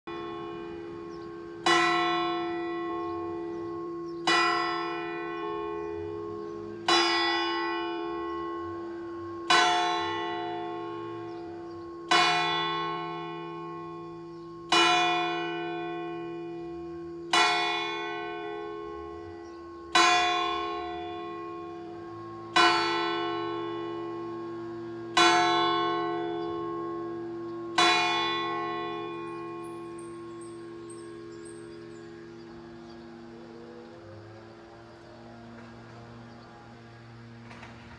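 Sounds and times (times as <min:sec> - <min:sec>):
church bell clanging: 0:00.1 - 0:37.9.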